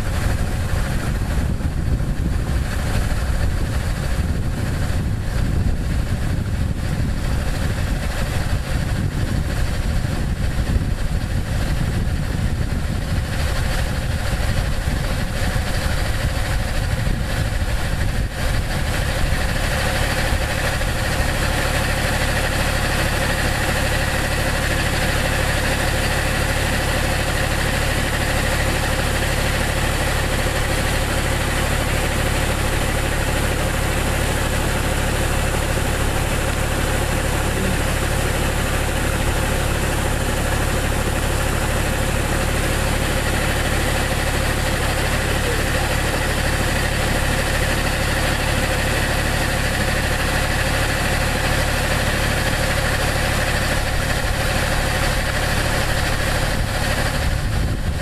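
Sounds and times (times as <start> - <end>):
machine drone: 0.0 - 58.0.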